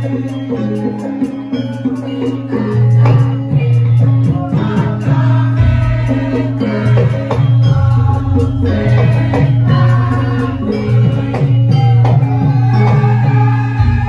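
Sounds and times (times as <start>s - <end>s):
gamelan music: 0.0s - 14.0s
person singing: 0.0s - 14.0s.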